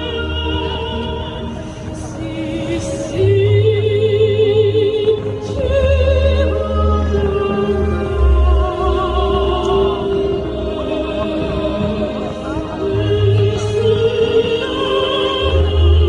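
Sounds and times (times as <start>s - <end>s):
deep steady bass: 0.0s - 16.0s
operatic singing voice: 0.0s - 16.0s.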